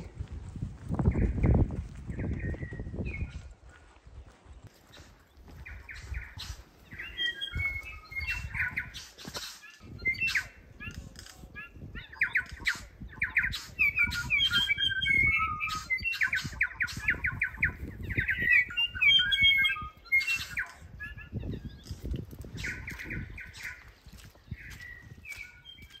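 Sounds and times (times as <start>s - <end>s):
wind rumble on microphone: 0.0s - 26.0s
wild birds singing and calling: 1.0s - 26.0s.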